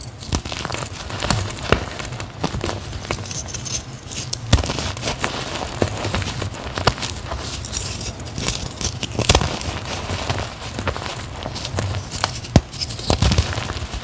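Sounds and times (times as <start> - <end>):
chalk chunks snapping: 0.0 - 14.0
chalk crunching by hand: 0.0 - 14.0.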